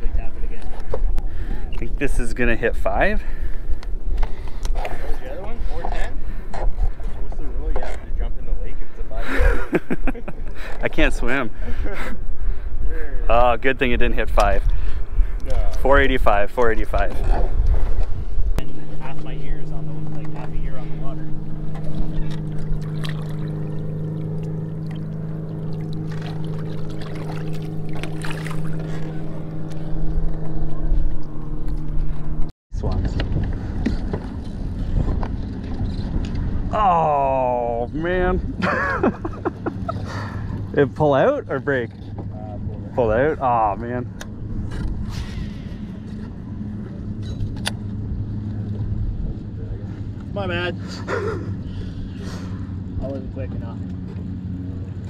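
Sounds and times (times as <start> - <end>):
boat motor humming: 0.0 - 55.0.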